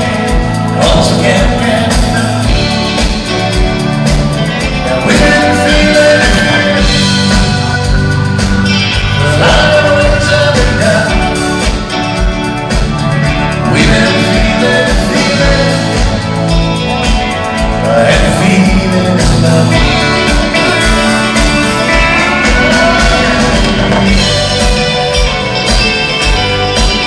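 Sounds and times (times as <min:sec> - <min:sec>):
electric guitars: 0:00.0 - 0:27.0
live country band: 0:00.0 - 0:27.0
steady drumbeat: 0:00.0 - 0:27.0.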